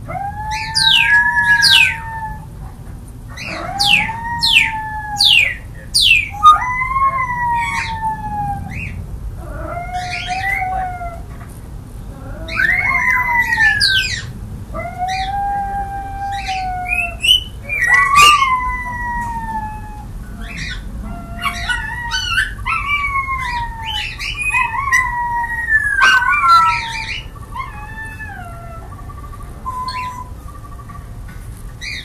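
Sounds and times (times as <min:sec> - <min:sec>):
pet whining cries: 0:00.0 - 0:02.6, 0:03.3 - 0:11.4, 0:12.0 - 0:30.4.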